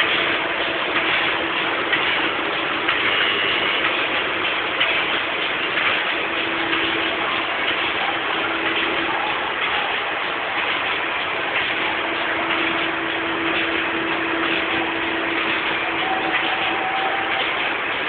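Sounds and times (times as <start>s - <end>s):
bag-making machine running: 0.0s - 18.0s
faint steady hum: 0.0s - 18.0s.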